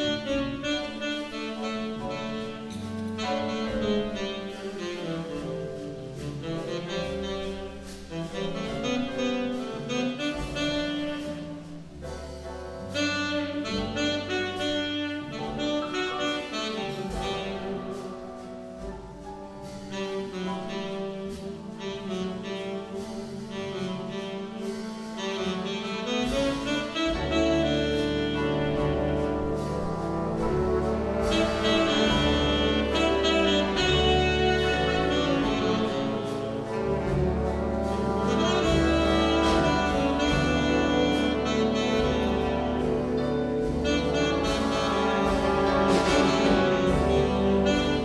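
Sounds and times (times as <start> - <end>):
saxophone solo: 0.0 - 12.0, 13.0 - 18.4, 19.9 - 48.0
brass section: 0.0 - 48.0
drums and cymbals: 0.0 - 48.0
piano: 0.0 - 48.0.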